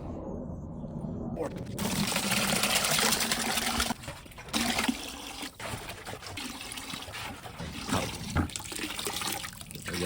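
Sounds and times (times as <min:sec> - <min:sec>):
liquid pouring and trickling: 0:01.8 - 0:10.0.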